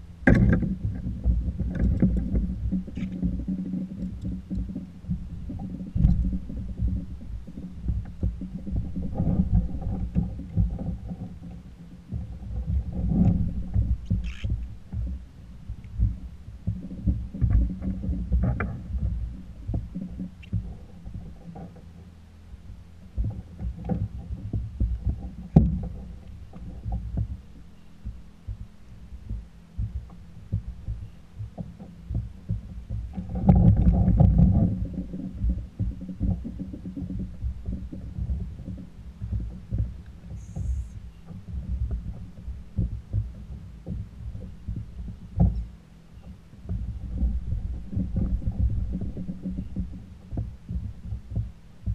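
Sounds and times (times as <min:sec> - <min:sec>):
water and gear knocking on kayak hull: 0:00.2 - 0:21.9, 0:22.6 - 0:51.9.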